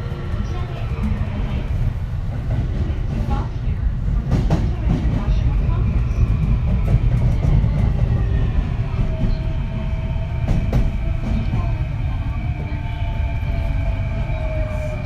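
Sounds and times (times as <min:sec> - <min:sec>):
rumble of train wheels: 0:00.0 - 0:15.0.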